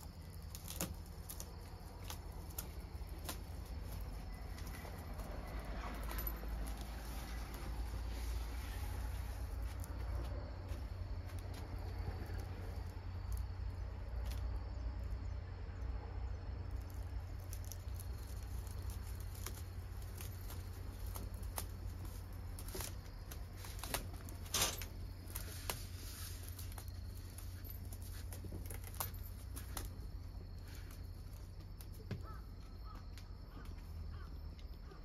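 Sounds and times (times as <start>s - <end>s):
cat rustling bamboo blind: 0.0s - 15.2s, 16.6s - 32.7s.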